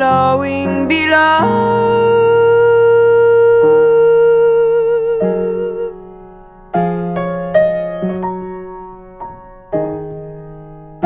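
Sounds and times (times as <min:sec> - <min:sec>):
slow solo piano: 0:00.0 - 0:11.0.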